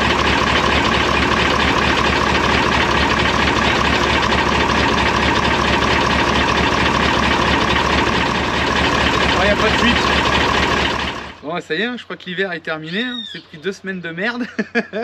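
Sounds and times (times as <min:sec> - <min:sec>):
diesel truck engine idling: 0:00.0 - 0:14.3.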